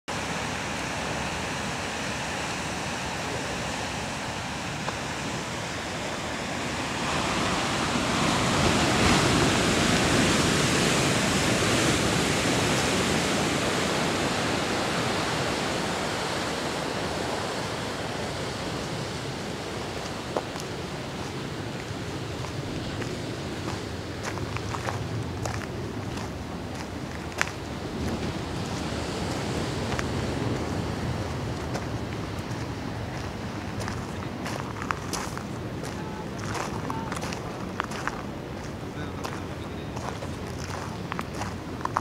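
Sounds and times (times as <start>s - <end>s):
surf washing on rocky shore: 0.1s - 42.0s.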